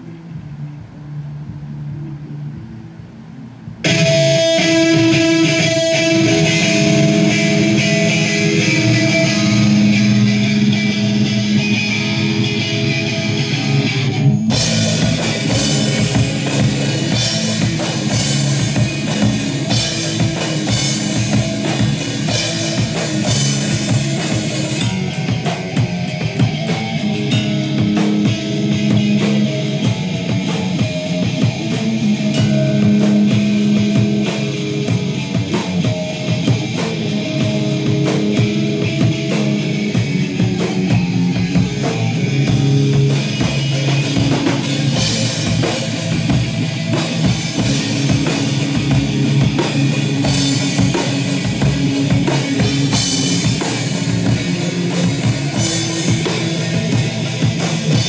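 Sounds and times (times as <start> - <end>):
rock band playing loud: 0.0 - 0.8, 3.8 - 58.0
cymbals crashing: 3.8 - 58.0.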